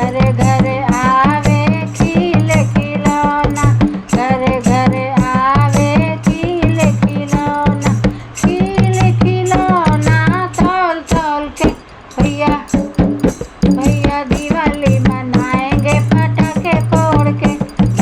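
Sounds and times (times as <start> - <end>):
heavy drum beat: 0.0 - 18.0
person singing: 0.0 - 18.0.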